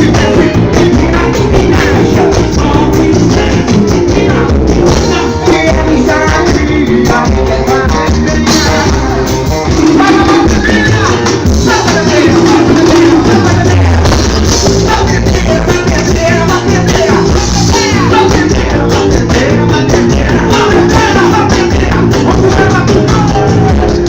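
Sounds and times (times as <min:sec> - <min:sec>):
band playing loud music: 0:00.0 - 0:24.0.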